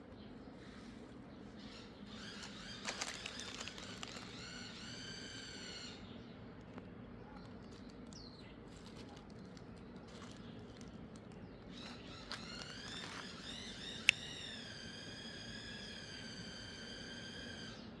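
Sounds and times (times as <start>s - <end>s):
bird calls: 0.0s - 18.0s.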